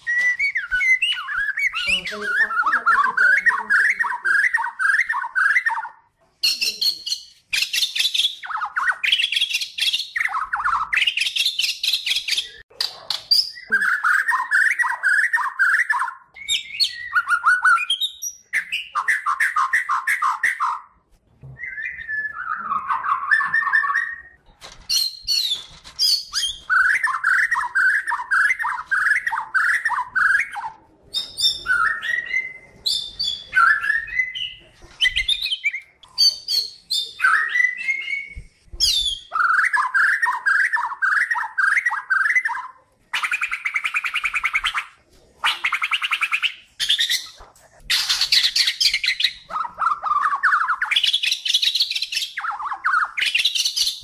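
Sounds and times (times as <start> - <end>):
songbird singing whistles and rattles: 0.0 - 20.9, 21.5 - 54.0.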